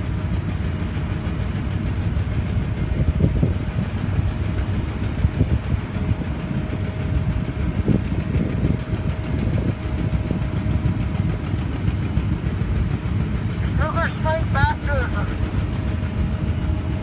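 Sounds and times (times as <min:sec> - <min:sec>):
diesel crane engines running: 0:00.0 - 0:17.0.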